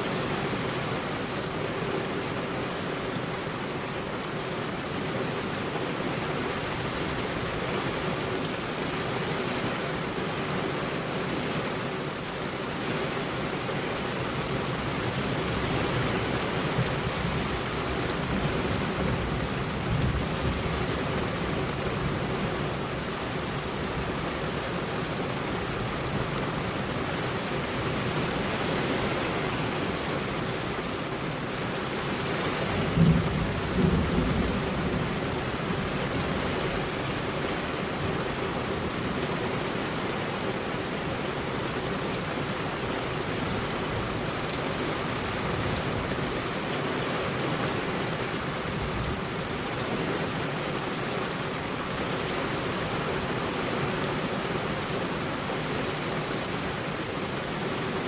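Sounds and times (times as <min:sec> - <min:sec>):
heavy rain on a road: 0:00.0 - 0:58.0.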